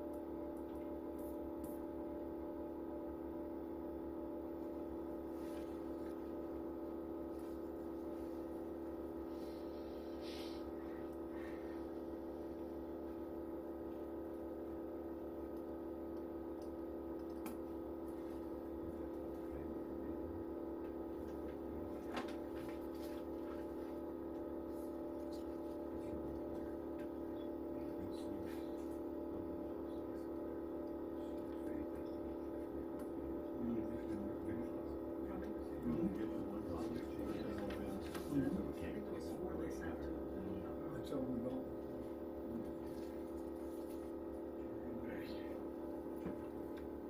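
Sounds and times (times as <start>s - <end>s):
machine humming: 0.0s - 47.0s.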